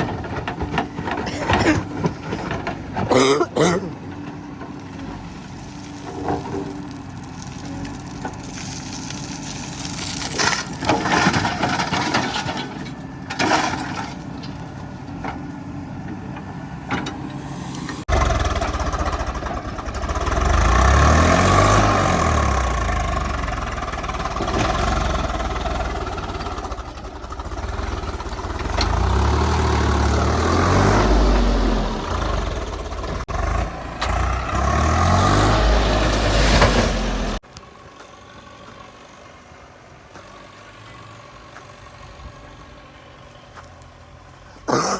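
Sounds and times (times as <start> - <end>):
diesel engine revving: 0.0 - 44.9.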